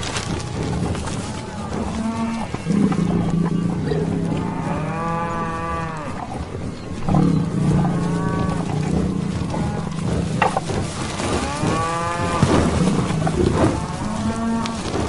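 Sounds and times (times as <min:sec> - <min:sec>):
cattle mooing: 0:00.0 - 0:15.0.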